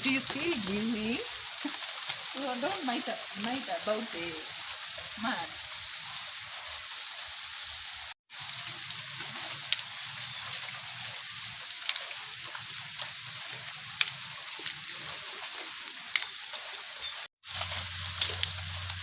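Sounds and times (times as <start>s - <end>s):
light rain hissing: 0.0s - 19.0s
sharp drips: 0.0s - 19.0s.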